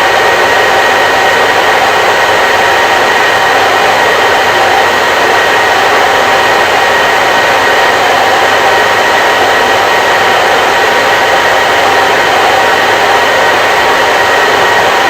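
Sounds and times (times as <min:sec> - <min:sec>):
hair dryer blowing air: 0:00.0 - 0:15.0
hair dryer motor whine: 0:00.0 - 0:15.0.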